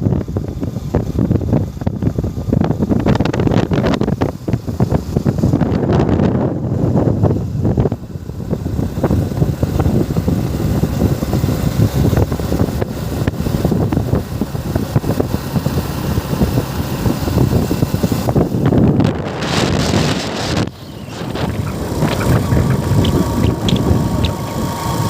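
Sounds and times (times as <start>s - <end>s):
motorcycle running: 0.0s - 25.0s
road noise: 0.0s - 25.0s
wind buffeting microphone: 0.0s - 25.0s.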